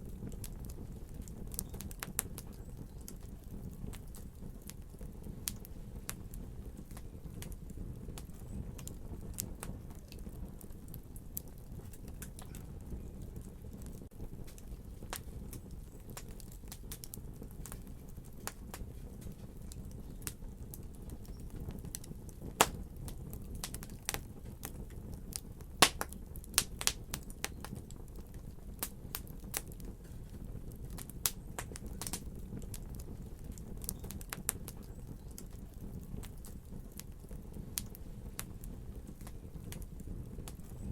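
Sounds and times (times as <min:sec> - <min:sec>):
fire pops and snaps: 0:00.0 - 0:40.9
low rumble of flames: 0:00.0 - 0:40.9.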